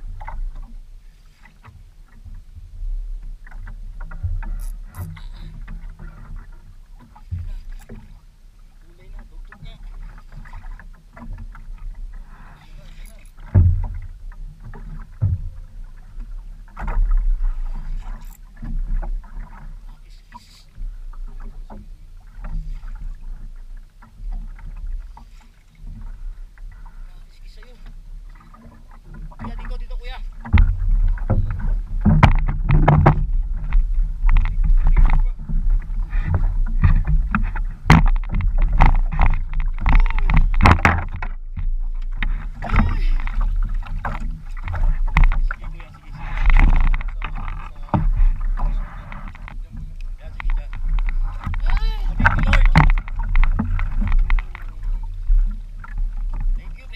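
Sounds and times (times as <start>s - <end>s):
knocks and thumps on boat: 0.0s - 56.9s
low steady rumble: 0.0s - 56.9s.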